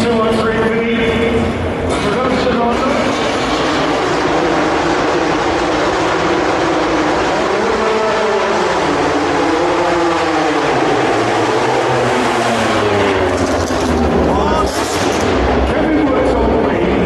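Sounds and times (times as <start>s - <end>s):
dense steady din: 0.0s - 17.0s
motorcycle engines revving: 1.4s - 17.0s.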